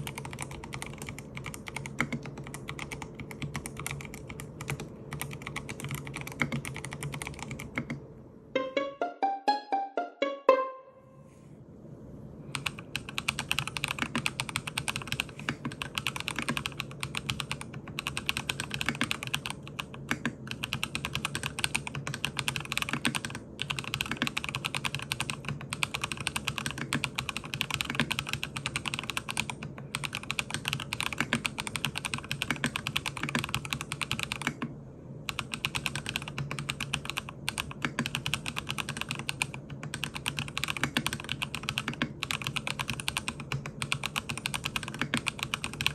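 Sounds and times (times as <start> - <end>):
fast mechanical keyboard typing: 0.0 - 8.0, 12.5 - 34.7, 35.3 - 45.9.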